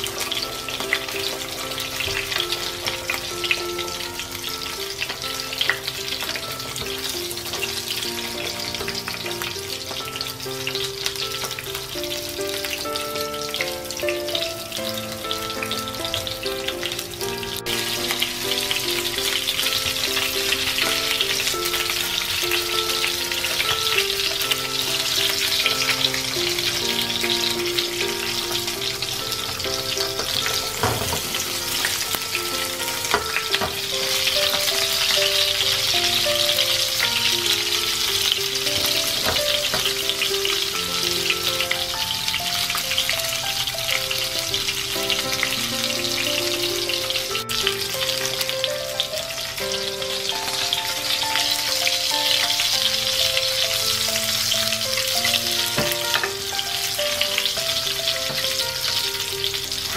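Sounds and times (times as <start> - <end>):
background music: 0.0 - 59.9
fish frying in hot oil: 0.0 - 59.9.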